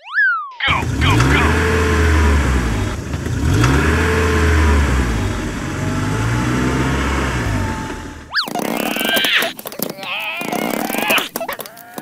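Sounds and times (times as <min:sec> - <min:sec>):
tractor engine revving: 0:00.7 - 0:12.0.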